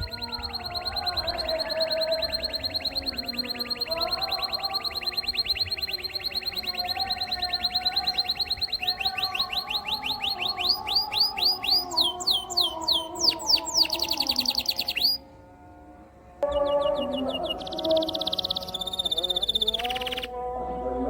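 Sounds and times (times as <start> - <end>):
canary singing trills: 0.0 - 15.3, 16.4 - 21.0.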